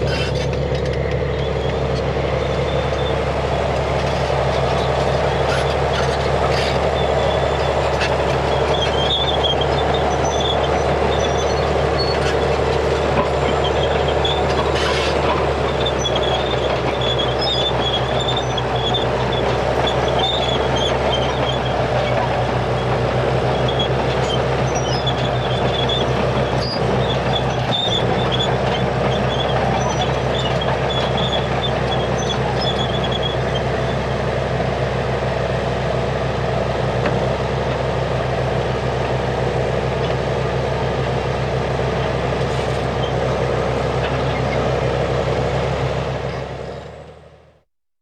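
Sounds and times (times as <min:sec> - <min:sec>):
metal tracks squealing: 0:00.0 - 0:35.4, 0:37.0 - 0:47.4
tank engine rumbling: 0:00.0 - 0:47.6.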